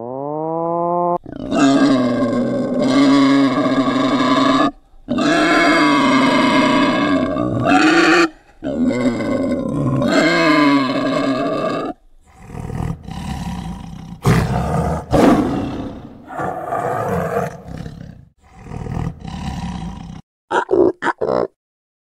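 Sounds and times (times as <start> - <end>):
tiger roaring and snarling: 1.2 - 20.2.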